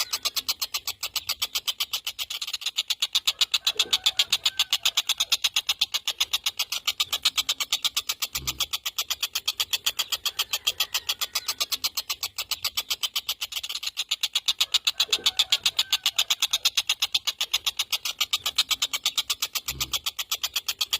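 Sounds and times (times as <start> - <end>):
kingfisher rattling call: 0.0 - 20.9.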